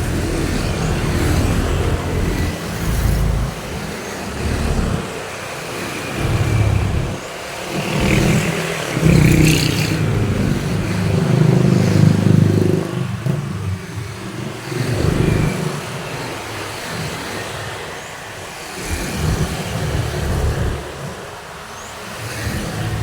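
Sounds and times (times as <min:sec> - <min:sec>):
vehicles passing: 0:00.0 - 0:17.2, 0:18.7 - 0:23.0.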